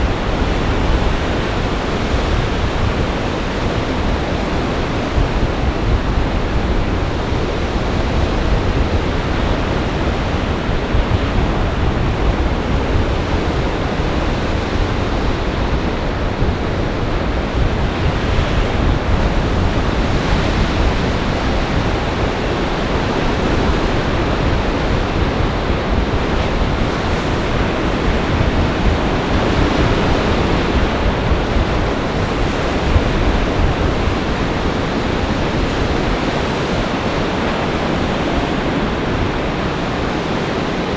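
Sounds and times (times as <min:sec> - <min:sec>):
storm waves breaking: 0:00.0 - 0:40.9
wind rumbling on microphone: 0:00.0 - 0:40.9.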